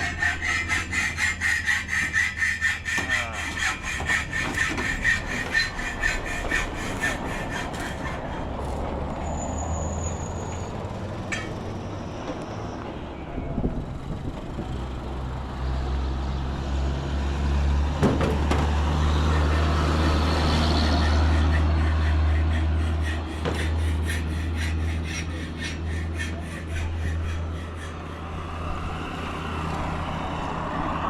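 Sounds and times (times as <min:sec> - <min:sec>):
vehicle engine humming: 0:05.6 - 0:31.0.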